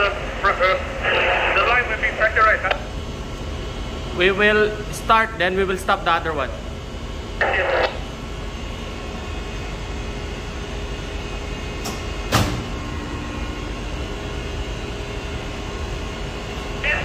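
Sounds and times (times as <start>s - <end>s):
engine room machinery drone: 0.0s - 17.0s.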